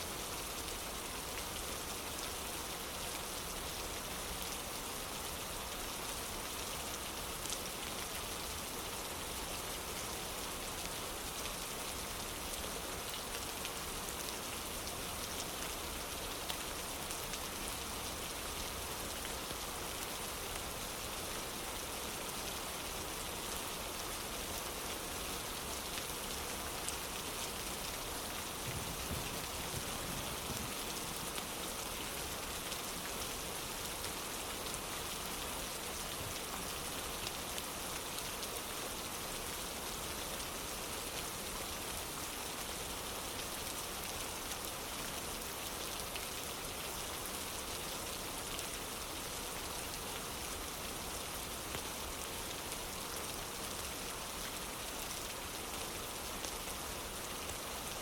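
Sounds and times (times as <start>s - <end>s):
rain on wooden porch: 0.0s - 58.0s.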